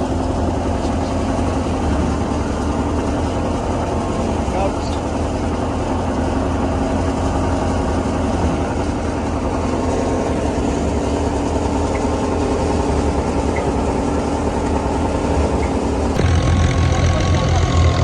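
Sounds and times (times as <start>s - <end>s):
low engine drone: 0.0s - 18.0s
threshing machine running: 0.0s - 18.0s.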